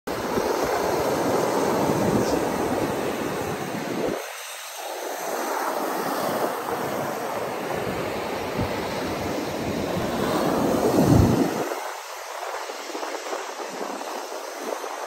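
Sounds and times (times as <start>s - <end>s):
ocean waves breaking: 0.1s - 15.0s
wind buffeting microphone: 0.1s - 15.0s.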